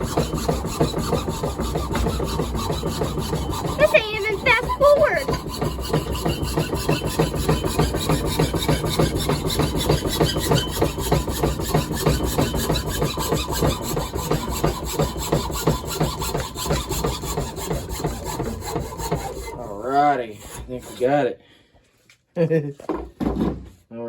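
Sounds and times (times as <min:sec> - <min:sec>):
hand saw cutting wood: 0:00.0 - 0:21.4.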